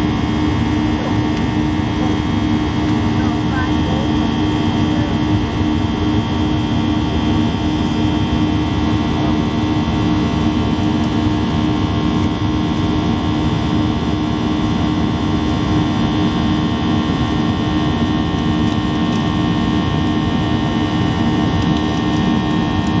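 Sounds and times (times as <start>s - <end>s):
jet engines roaring in cabin: 0.0s - 23.0s.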